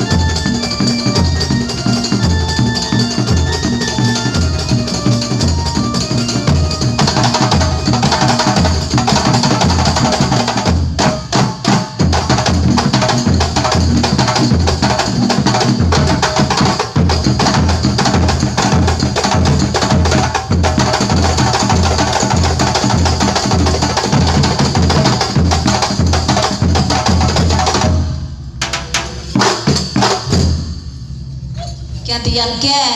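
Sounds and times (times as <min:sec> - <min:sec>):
frame drums playing fast rhythm: 0:00.0 - 0:31.3
steady deep drum beat: 0:00.0 - 0:31.5.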